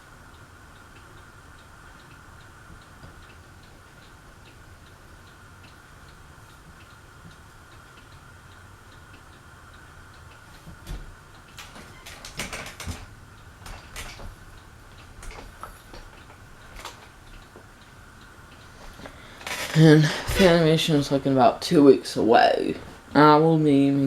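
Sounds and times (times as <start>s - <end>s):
ceiling fan humming: 0.0s - 24.0s
irregular clicks and light knocks: 0.3s - 20.5s.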